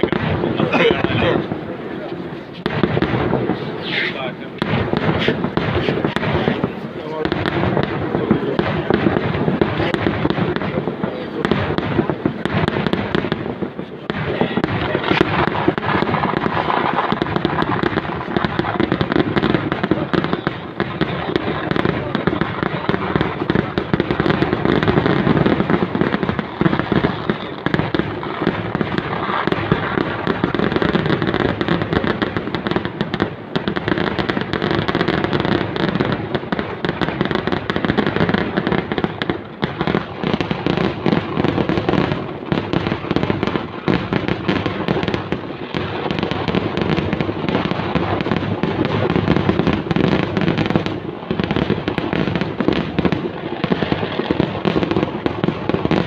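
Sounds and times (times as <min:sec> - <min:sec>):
fireworks explosions and crackling: 0:00.0 - 0:56.0.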